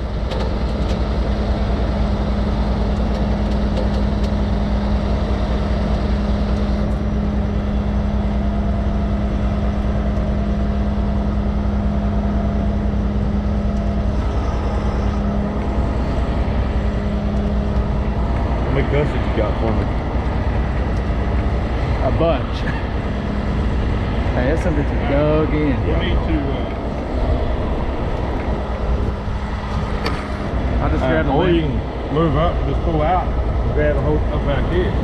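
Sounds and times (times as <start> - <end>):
diesel truck engine droning: 0.0 - 35.0.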